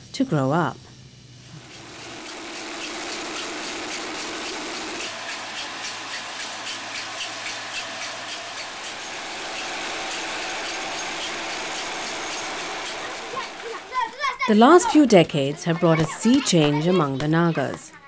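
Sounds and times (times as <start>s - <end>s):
grain mill running: 1.4s - 17.6s.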